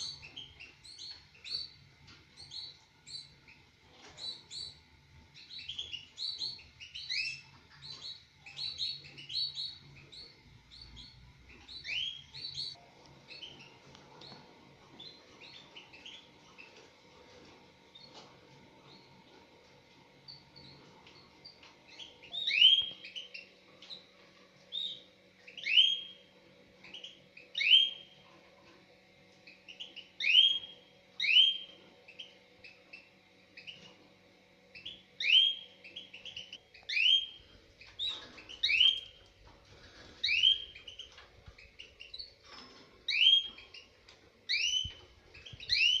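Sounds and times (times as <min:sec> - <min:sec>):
canaries chirping: 0:00.0 - 0:34.1, 0:34.7 - 0:46.0.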